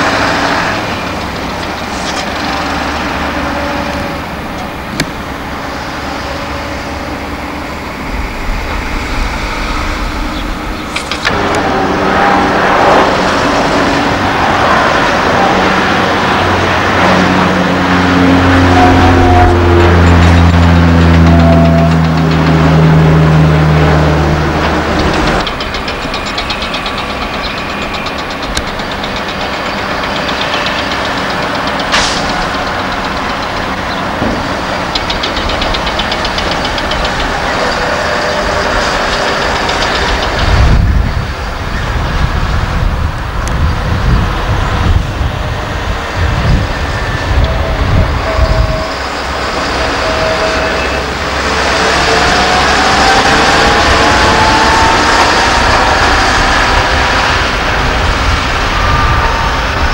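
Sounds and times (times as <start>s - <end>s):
diesel trucks rumbling past: 0.0s - 59.9s
truck engine pulling away: 0.0s - 59.9s.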